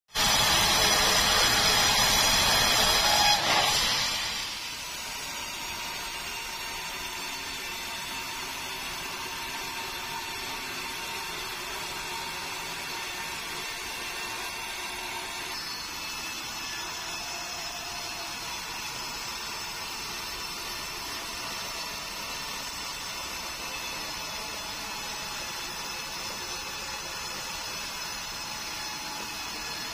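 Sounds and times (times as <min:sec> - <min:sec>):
band saw sawing log: 0:00.2 - 0:29.9.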